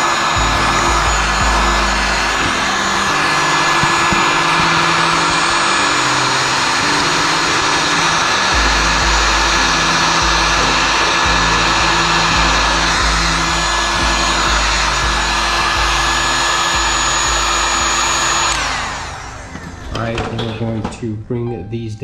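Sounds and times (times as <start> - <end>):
heat gun blowing: 0.0 - 19.9.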